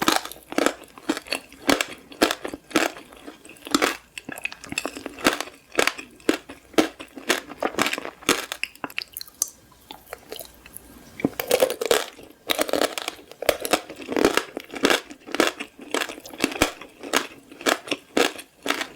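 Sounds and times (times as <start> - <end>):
crunchy candy being chewed: 0.0 - 18.9.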